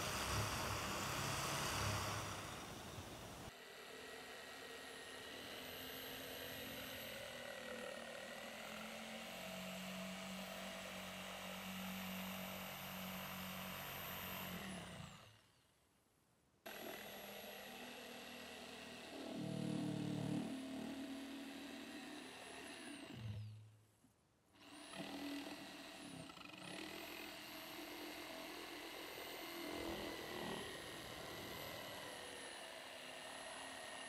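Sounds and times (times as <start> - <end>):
jigsaw sawing through wood: 0.0 - 15.6, 16.7 - 23.6, 24.6 - 34.0.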